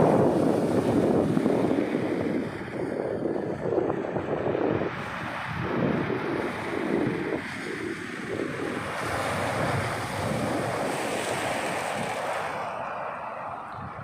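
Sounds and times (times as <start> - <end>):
surf washing on shore: 0.0 - 14.0
wind buffeting microphone: 0.0 - 14.0.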